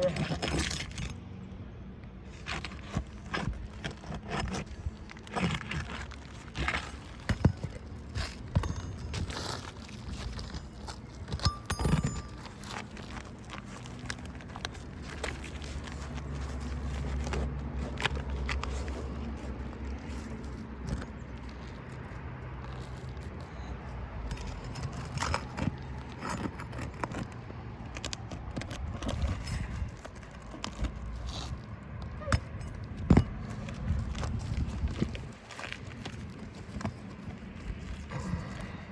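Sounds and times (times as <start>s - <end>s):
knocks and scrapes on shingles: 2.2s - 38.9s.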